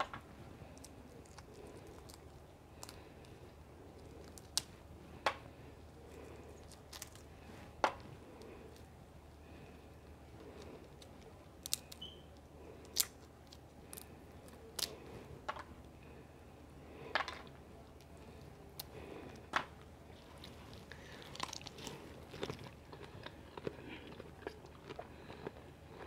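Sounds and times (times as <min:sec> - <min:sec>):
person chewing: 0:00.0 - 0:16.1, 0:17.0 - 0:26.0.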